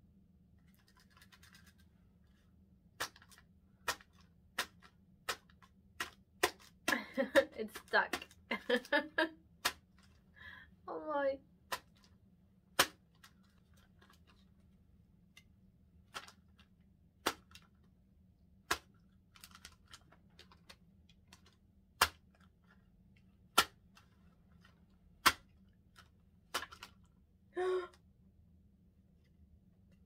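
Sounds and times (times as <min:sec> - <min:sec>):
soft plastic crinkling: 0:00.6 - 0:10.5, 0:11.6 - 0:12.3, 0:13.0 - 0:18.0, 0:18.8 - 0:27.2.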